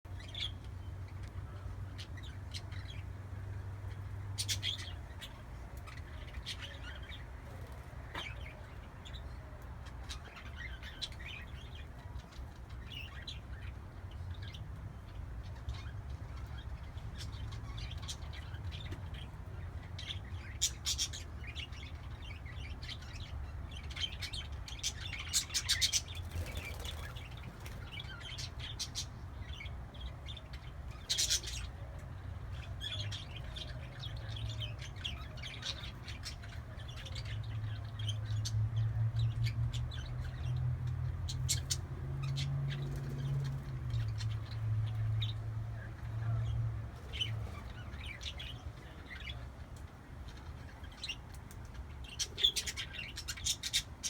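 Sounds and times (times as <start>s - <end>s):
parakeets chirping and squeaking: 3.8s - 49.4s, 50.2s - 54.0s.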